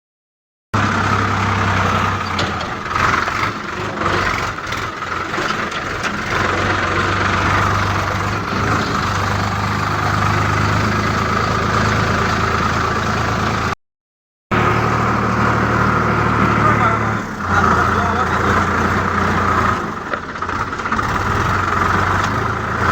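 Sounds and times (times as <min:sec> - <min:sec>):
engine clatter: 0:00.8 - 0:13.8, 0:14.5 - 0:22.9
tractor diesel engine running: 0:00.8 - 0:13.8, 0:14.5 - 0:22.9.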